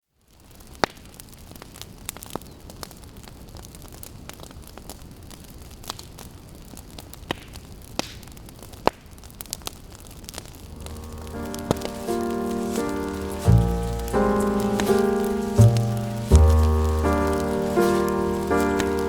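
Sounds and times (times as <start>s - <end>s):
burning wood popping and snapping: 0.3s - 19.0s
low rumble of flames: 0.4s - 19.0s.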